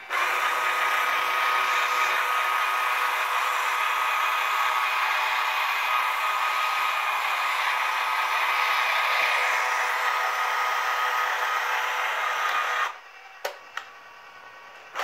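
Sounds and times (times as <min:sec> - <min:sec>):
electric motor and gears whirring: 0:00.0 - 0:15.0.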